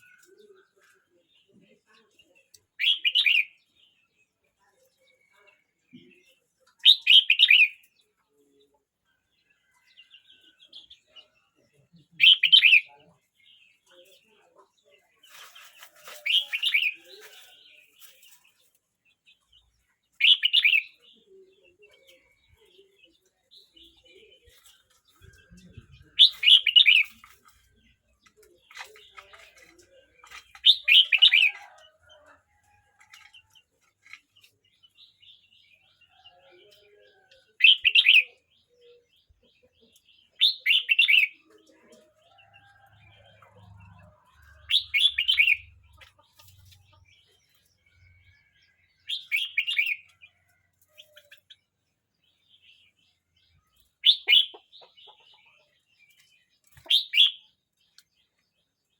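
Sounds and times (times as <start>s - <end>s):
bird song phrases: 0.0s - 58.9s.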